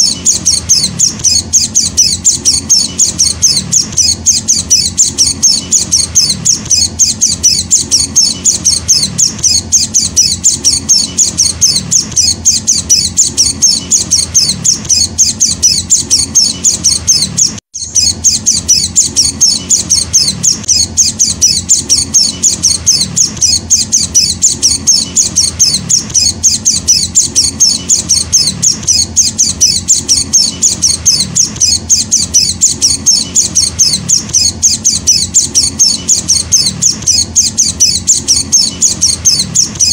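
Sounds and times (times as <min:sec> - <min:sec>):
bird chick high-pitched chips: 0:00.0 - 0:39.9.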